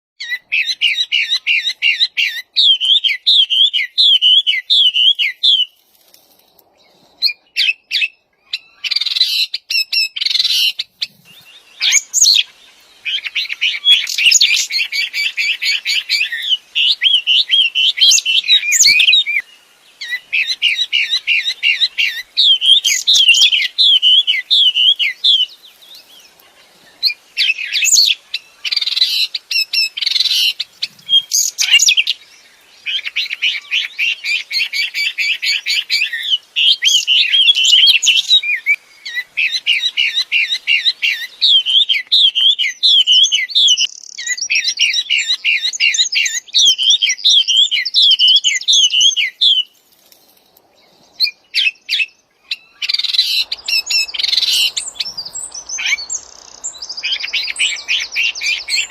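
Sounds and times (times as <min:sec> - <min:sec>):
songbird trilling and warbling: 0:00.2 - 0:05.8, 0:06.8 - 0:58.9.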